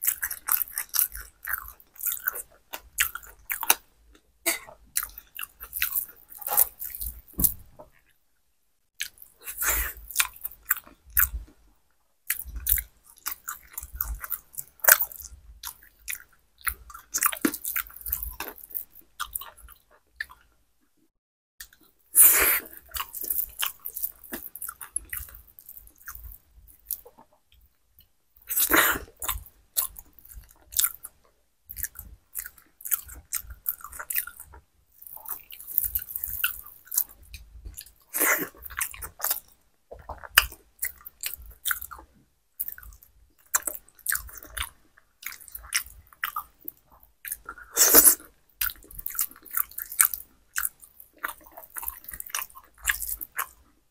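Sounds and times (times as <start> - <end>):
wet chewing with clicks: 0.0 - 4.2, 4.9 - 8.2, 9.0 - 11.6, 12.3 - 20.5, 22.6 - 53.9.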